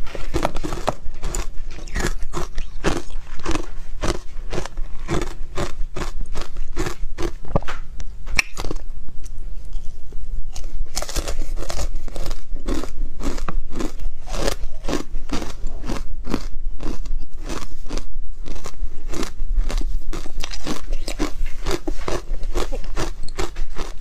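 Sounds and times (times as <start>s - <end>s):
ice crunching while chewed: 0.0s - 7.6s, 8.4s - 8.9s, 10.5s - 24.0s.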